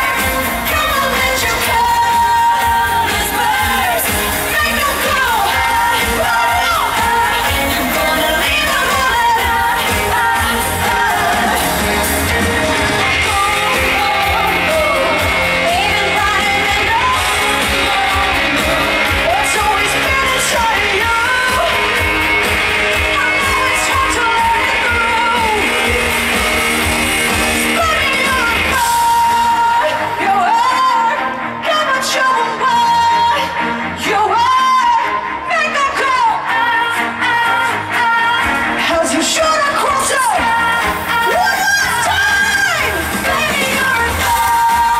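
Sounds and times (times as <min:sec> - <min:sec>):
loud band with heavy bass: 0:00.0 - 0:44.9
person singing lead vocal: 0:00.0 - 0:44.9.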